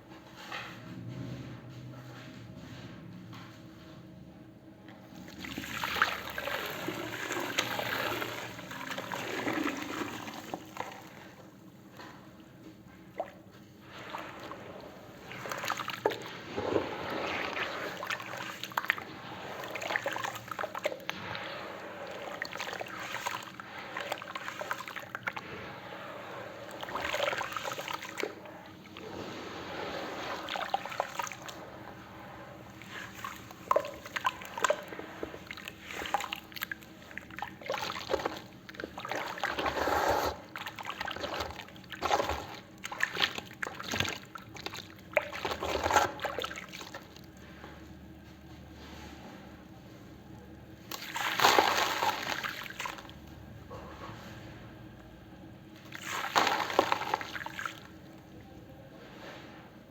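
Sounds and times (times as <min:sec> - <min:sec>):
wet cement sloshing: 0:05.2 - 0:59.9.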